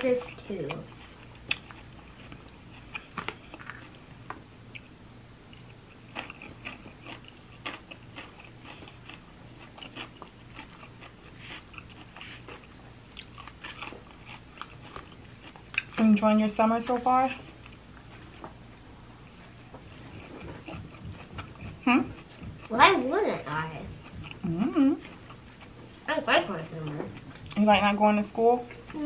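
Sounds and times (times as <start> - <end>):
chewing and crunching salad: 0.1 - 29.0.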